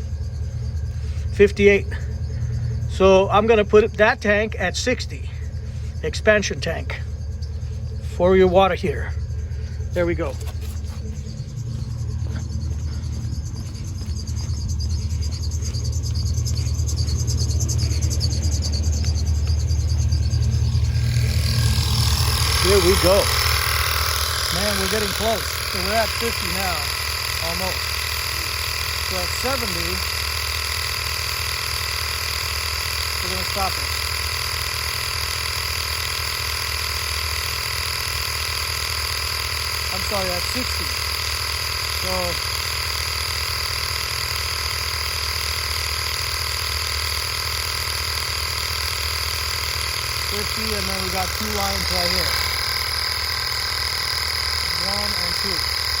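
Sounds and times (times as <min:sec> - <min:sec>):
air compressor running: 0:00.0 - 0:56.0.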